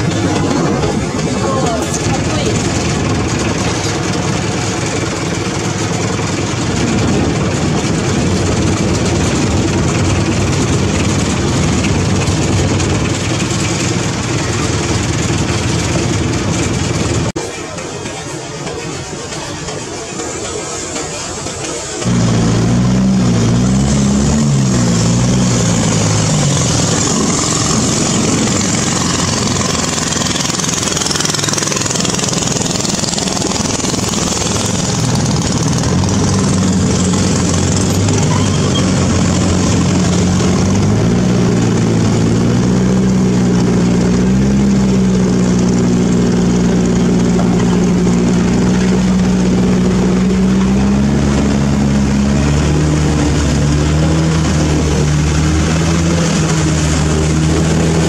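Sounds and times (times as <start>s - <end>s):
rushing water and wind: 0.0s - 17.3s, 22.0s - 58.0s
motorboat engine humming: 0.0s - 58.0s.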